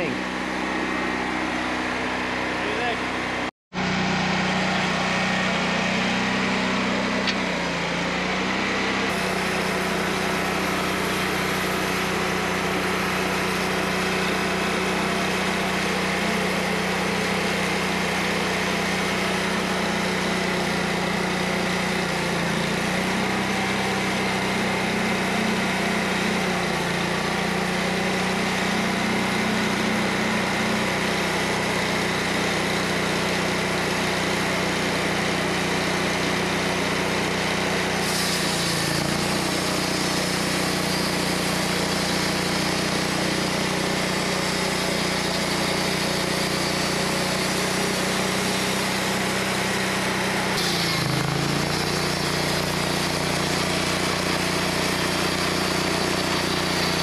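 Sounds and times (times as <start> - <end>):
band sawmill cutting log: 0.0 - 57.0.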